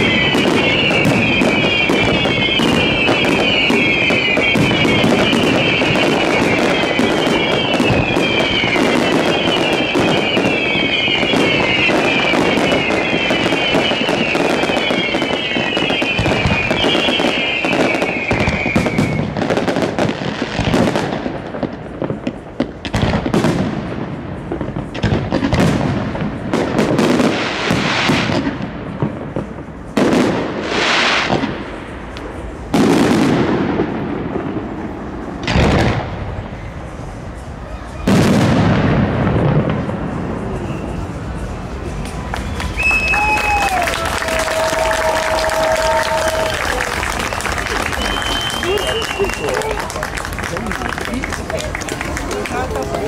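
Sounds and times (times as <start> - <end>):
falling firework whistle: 0.0 - 53.0
fireworks bangs and crackling: 0.0 - 53.0.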